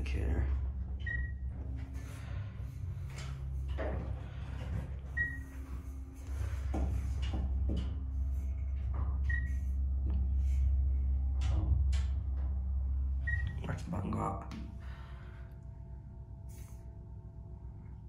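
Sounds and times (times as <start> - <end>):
elevator low hum: 0.0 - 18.0.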